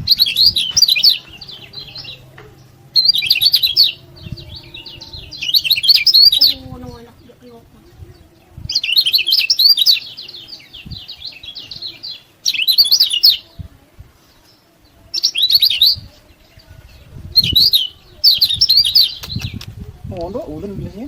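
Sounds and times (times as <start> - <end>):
bird chirping: 0.0 - 19.7.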